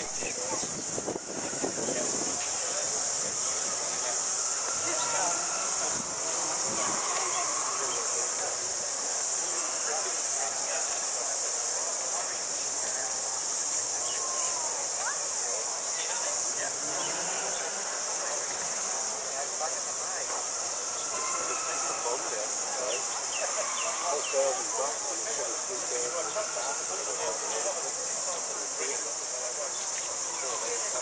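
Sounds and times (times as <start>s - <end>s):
cicadas droning: 0.0s - 31.0s
faint voices of people: 0.0s - 31.0s.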